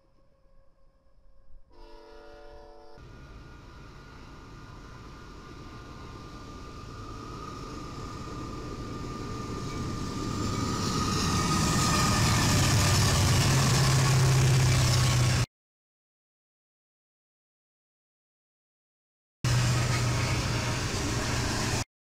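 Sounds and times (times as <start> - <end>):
diesel locomotive engine drone: 0.0 - 15.5, 19.5 - 21.9.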